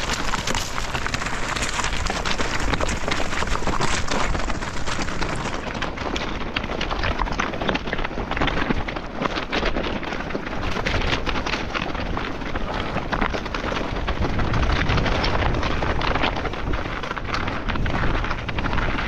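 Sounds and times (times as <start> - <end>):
mountain bike clattering on trail: 0.0 - 19.0
wind rumbling on microphone: 0.0 - 19.0.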